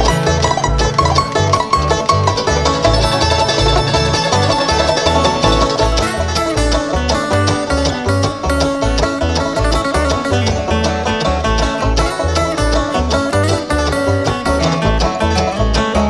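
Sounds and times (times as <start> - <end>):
bass notes: 0.0 - 16.0
guitar: 0.0 - 16.0
rapid banjo picking: 0.0 - 16.0.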